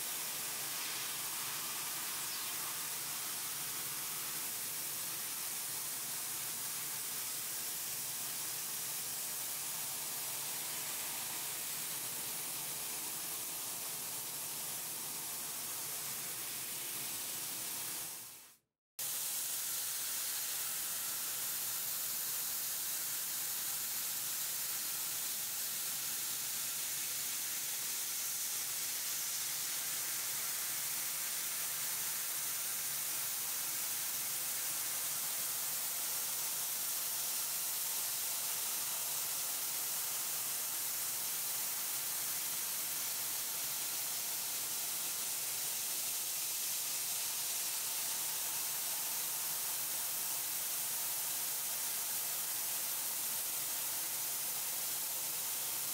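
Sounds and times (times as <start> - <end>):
high-pitched hiss of gas jet: 0.0 - 55.9.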